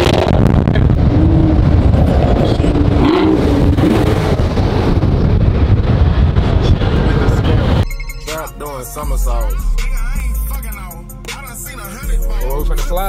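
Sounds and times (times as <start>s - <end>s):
road and wind rumble: 0.0s - 11.3s
car engine running: 0.0s - 13.0s.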